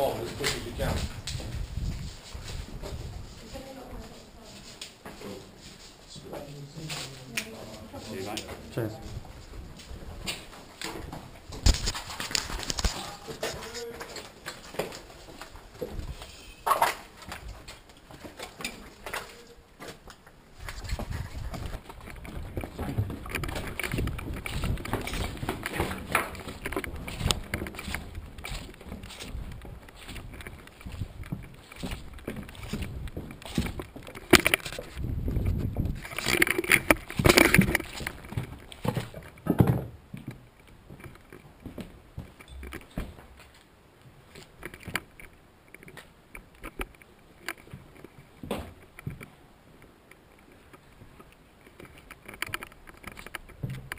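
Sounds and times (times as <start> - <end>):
footsteps on concrete: 0.0 - 44.6.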